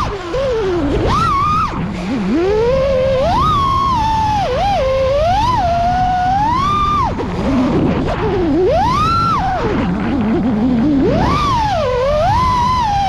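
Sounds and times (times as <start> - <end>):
drone motors whining: 0.0 - 13.0
rushing wind: 0.0 - 13.0.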